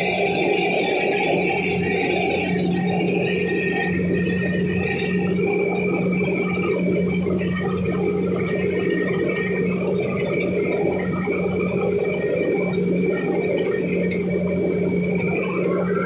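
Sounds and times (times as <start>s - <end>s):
machine droning: 0.0s - 16.0s.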